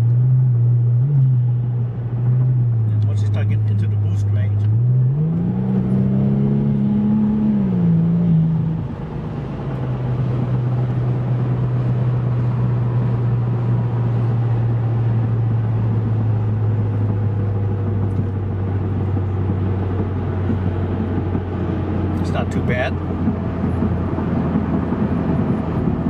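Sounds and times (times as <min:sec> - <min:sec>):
car engine in cabin: 0:00.0 - 0:26.0.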